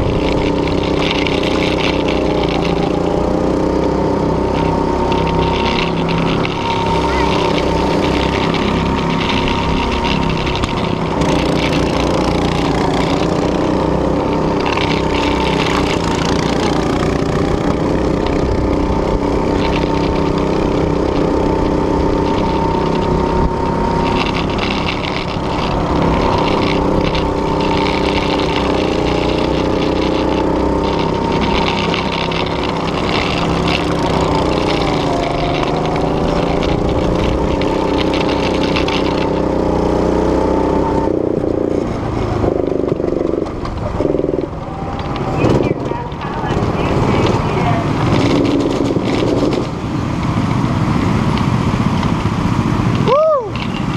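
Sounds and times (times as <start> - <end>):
go-kart engine running: 0.0 - 53.9.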